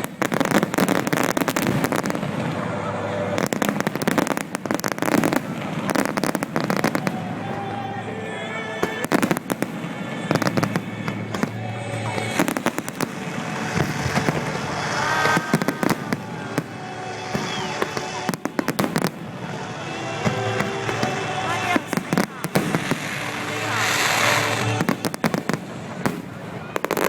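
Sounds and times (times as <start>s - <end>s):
fireworks bursting and crackling: 0.0s - 27.0s.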